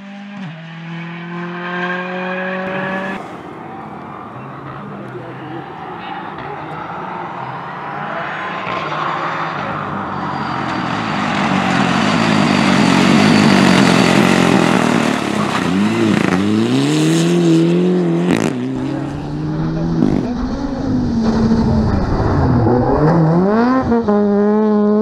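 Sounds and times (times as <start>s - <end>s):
rally car engine at full throttle: 0.0s - 25.0s.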